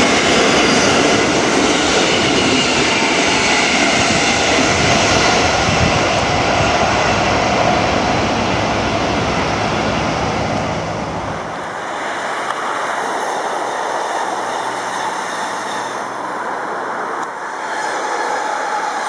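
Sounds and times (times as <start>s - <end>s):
electric train humming: 0.0s - 19.0s
train passing with rolling rush: 0.0s - 19.0s.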